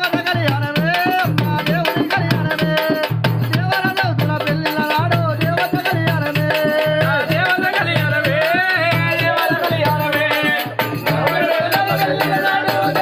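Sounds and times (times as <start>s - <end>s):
man singing: 0.0s - 13.0s
rhythmic hand percussion: 0.0s - 13.0s.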